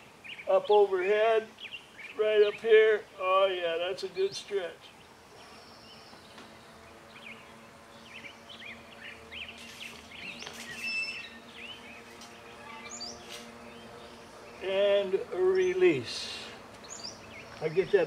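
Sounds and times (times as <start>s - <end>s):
wild birds chirping: 0.0s - 18.0s.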